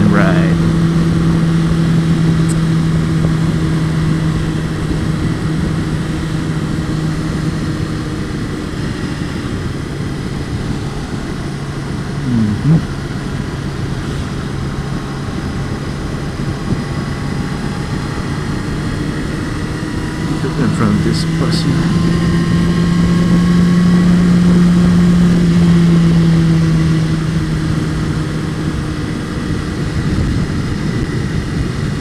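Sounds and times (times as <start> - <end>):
motorcycle engine running: 0.0 - 32.0
wind noise: 0.0 - 32.0.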